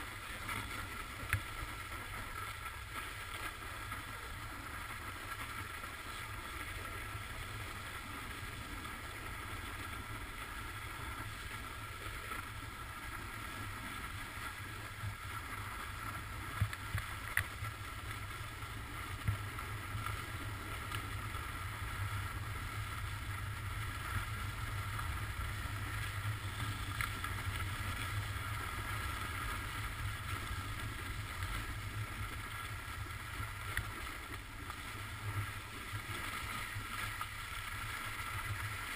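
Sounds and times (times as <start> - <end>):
skis sliding on snow: 0.0 - 38.9.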